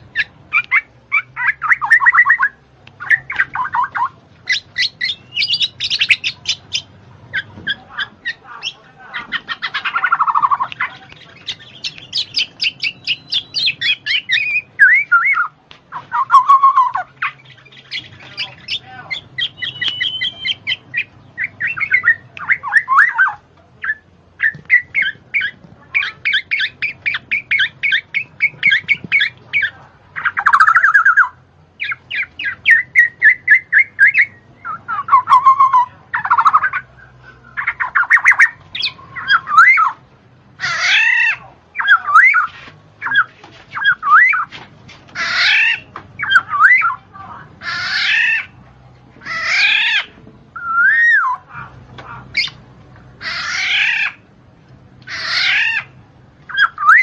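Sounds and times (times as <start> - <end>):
bird squawking and chattering: 0.0 - 40.0, 40.6 - 48.6, 49.2 - 52.6, 53.2 - 54.3, 55.0 - 57.0
swooping bird calls: 0.0 - 40.0, 40.6 - 47.0, 47.6 - 48.6, 49.2 - 52.6, 53.2 - 54.3, 55.0 - 57.0.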